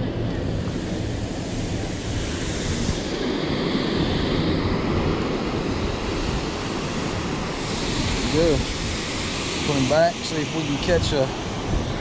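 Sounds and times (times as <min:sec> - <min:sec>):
wind: 0:00.0 - 0:12.0
wind buffeting microphone: 0:00.0 - 0:12.0.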